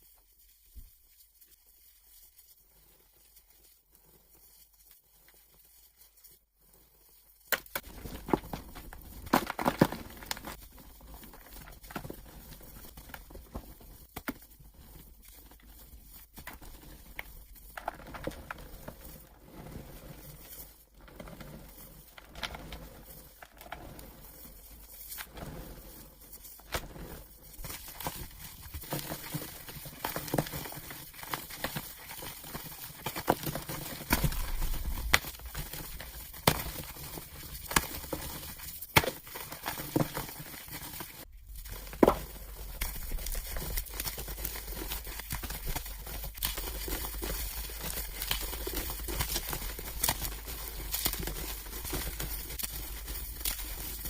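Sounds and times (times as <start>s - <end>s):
chalk blocks crunching and cracking: 7.4s - 54.0s.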